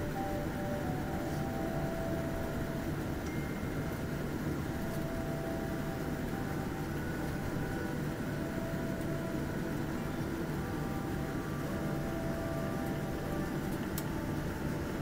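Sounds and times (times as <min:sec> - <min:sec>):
air-conditioning hiss: 0:00.0 - 0:15.0
faint whining tones: 0:00.0 - 0:15.0
jet engines idling: 0:00.0 - 0:15.0.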